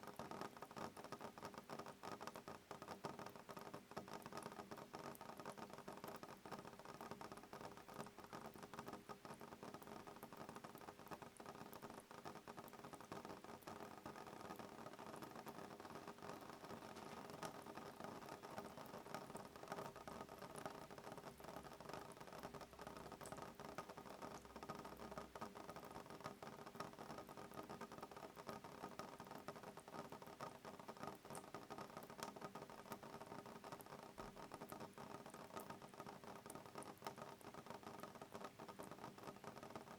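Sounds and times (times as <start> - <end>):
rain pattering on a window: 0.0 - 39.9.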